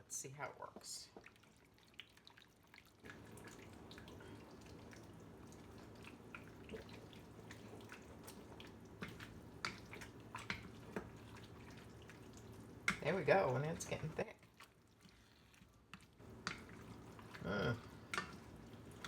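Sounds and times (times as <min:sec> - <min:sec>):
sauce bubbling in a wok: 0:01.1 - 0:19.0.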